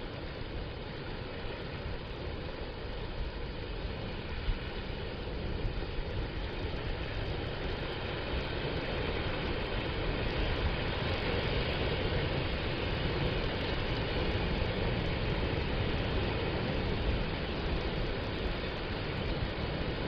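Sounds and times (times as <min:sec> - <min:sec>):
ocean surf on sandy beach: 0:00.0 - 0:20.0
wind rumbling on microphone: 0:00.0 - 0:20.0.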